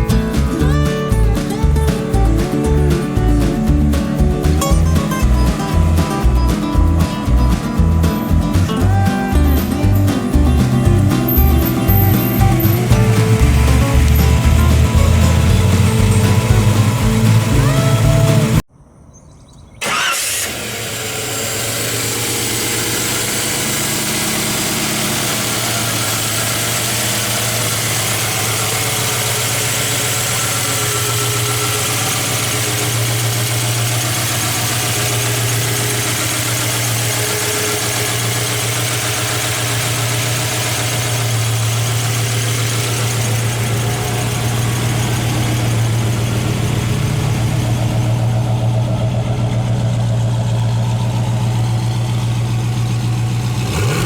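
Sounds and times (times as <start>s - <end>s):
truck engine starting and idling: 0.0s - 54.0s.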